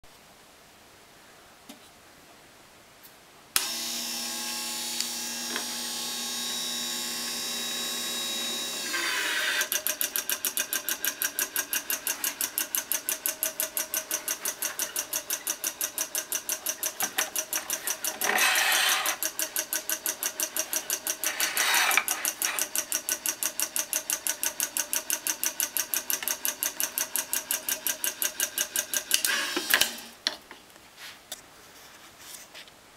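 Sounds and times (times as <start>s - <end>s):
electric tensioning motor pulsing: 3.6s - 30.1s.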